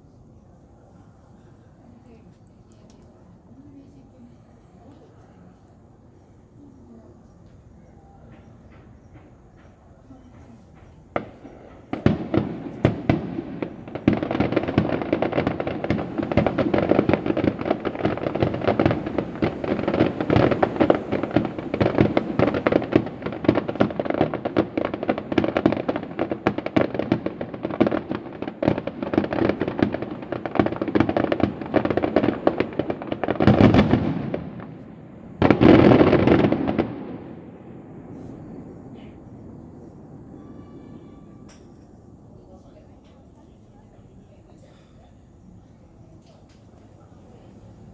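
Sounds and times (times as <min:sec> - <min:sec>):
fireworks bangs and crackle: 0:07.4 - 0:47.9.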